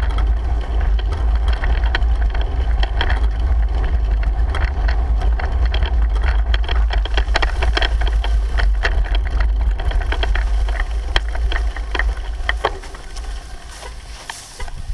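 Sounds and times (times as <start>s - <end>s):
bicycle rattling and clicking: 0.0s - 14.9s
wind buffeting microphone: 0.0s - 14.9s.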